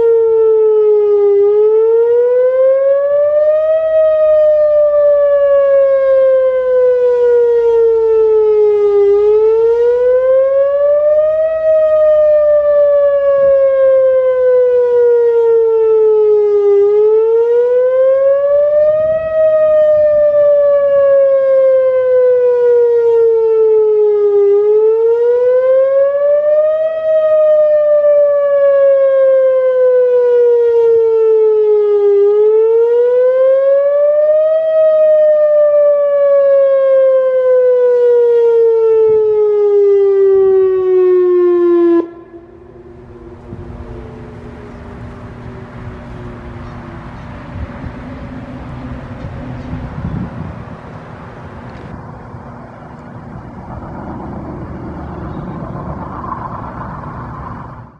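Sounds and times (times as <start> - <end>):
warning siren wailing: 0.0 - 57.9.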